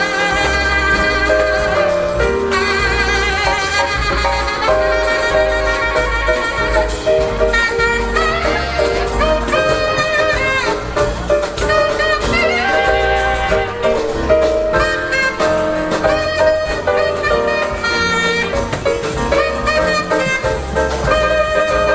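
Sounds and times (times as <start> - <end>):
jazz band playing: 0.0 - 21.9
saxophone: 0.0 - 21.9.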